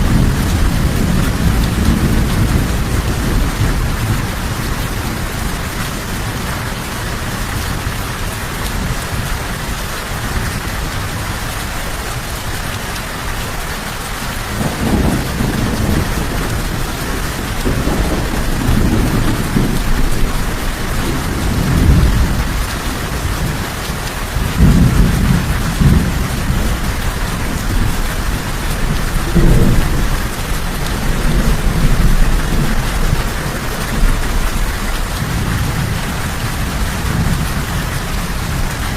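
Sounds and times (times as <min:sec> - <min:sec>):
rolling thunder rumbles: 0:00.0 - 0:12.5, 0:13.6 - 0:38.9
heavy rain hissing: 0:00.0 - 0:38.9.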